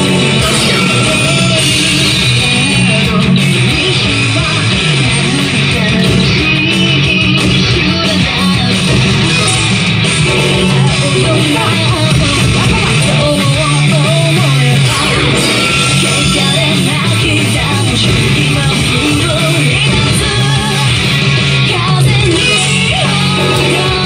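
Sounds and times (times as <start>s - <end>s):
person singing: 0.0s - 24.0s
rock song with electric guitar: 0.0s - 24.0s.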